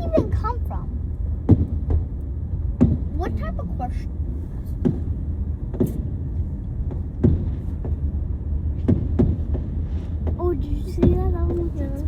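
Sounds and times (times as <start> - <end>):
car rumble from inside: 0.0 - 12.0.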